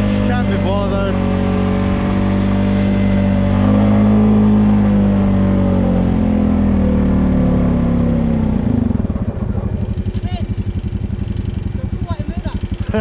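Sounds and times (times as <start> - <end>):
quad bike engine revving high: 0.0 - 13.0.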